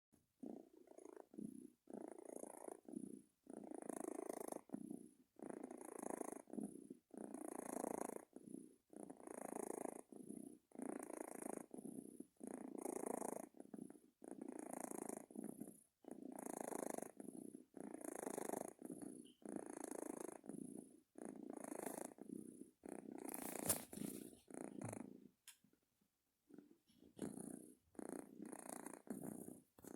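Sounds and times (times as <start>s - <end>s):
cat purring with rasp: 0.2s - 25.4s, 26.4s - 29.9s.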